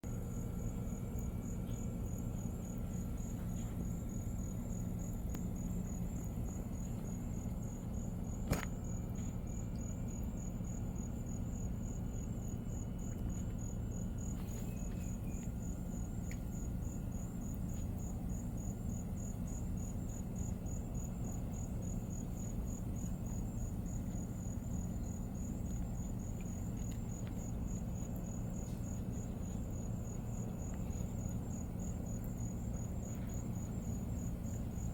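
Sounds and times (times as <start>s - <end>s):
cricket chirping: 0.0s - 34.9s
low steady rumble: 0.0s - 34.9s.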